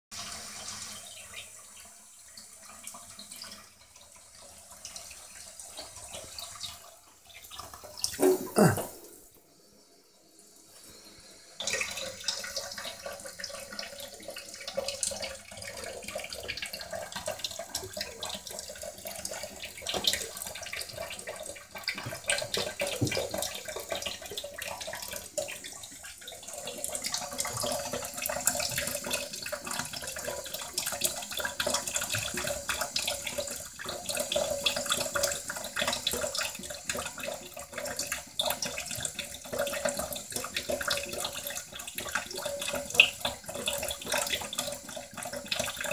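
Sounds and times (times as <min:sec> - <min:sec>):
water running from a tap: 0:00.1 - 0:45.9.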